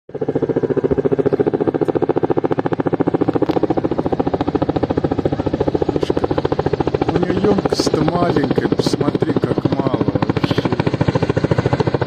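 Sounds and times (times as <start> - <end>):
helicopter rotor chopping: 0.1 - 12.0.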